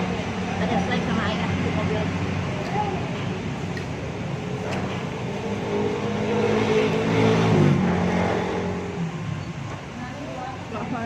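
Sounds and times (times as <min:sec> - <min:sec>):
vehicle engine passing by: 0:00.0 - 0:09.5
low traffic rumble: 0:00.0 - 0:11.0.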